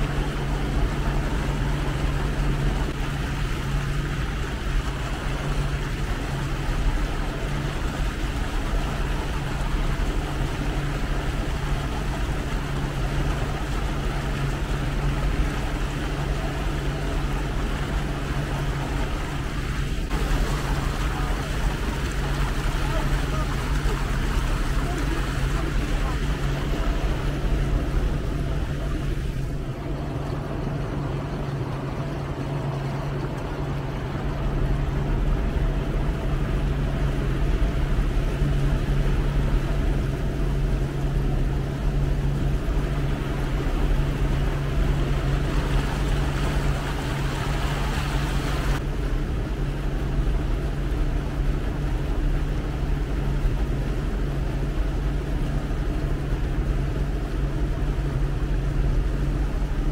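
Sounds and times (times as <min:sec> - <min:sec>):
motorboat engine droning: 0:00.0 - 0:59.9.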